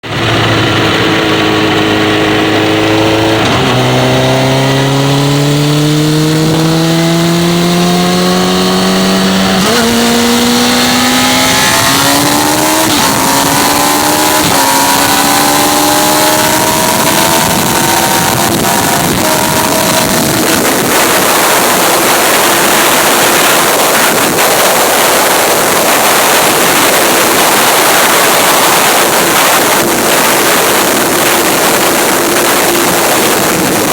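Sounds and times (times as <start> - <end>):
motorcycle engine accelerating: 0.0 - 33.9
wind rushing over microphone: 0.0 - 33.9.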